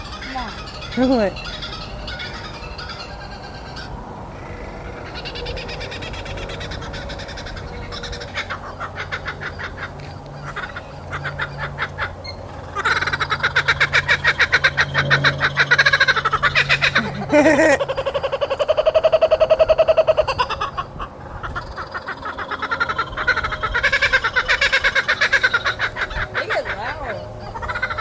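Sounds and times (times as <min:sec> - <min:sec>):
kookaburra laughing call: 0:00.0 - 0:28.0.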